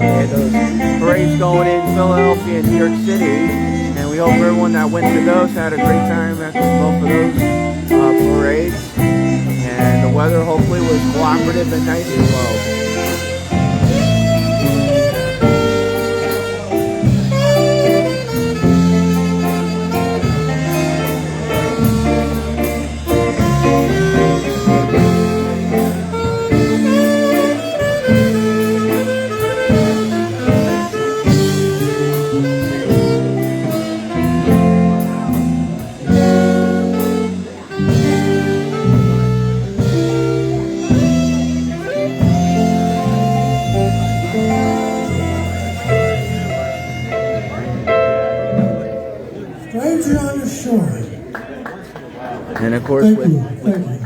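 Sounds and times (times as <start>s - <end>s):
live dance band playing: 0.0s - 50.8s.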